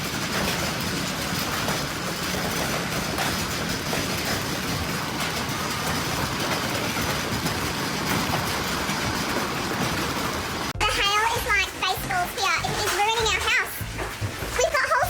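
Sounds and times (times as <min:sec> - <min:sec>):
heavy hail pelting down: 0:00.0 - 0:15.0.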